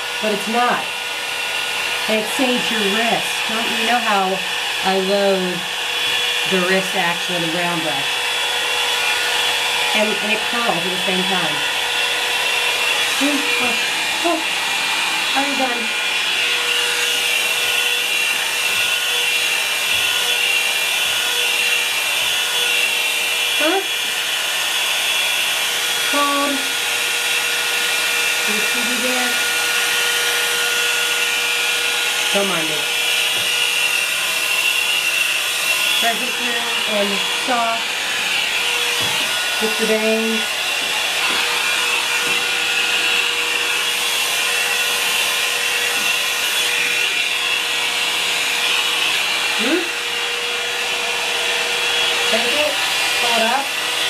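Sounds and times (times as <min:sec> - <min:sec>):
hot-air brush blowing hiss: 0:00.0 - 0:54.0.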